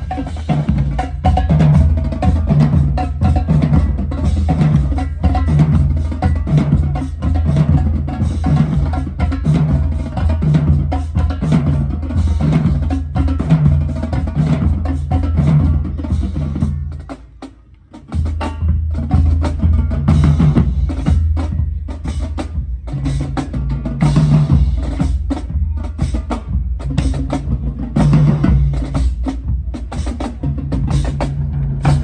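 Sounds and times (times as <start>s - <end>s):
marching drumline cadence: 0.0s - 32.0s.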